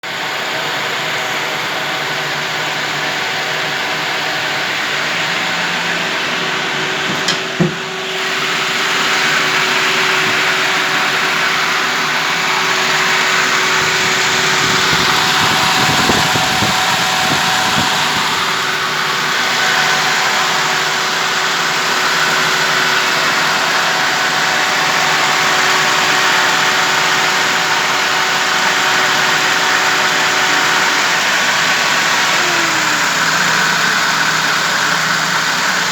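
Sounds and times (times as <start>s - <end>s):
petrol engine idling: 0.1s - 35.9s.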